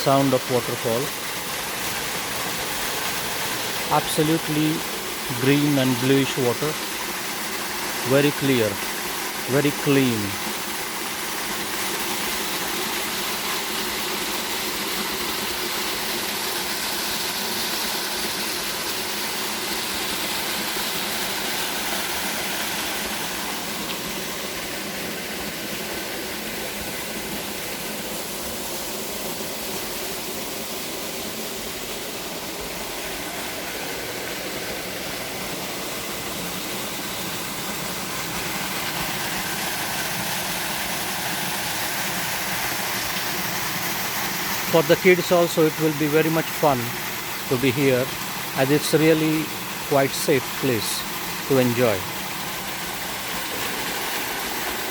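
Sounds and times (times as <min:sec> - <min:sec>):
waterfall pouring into a pool: 0:00.0 - 0:54.9.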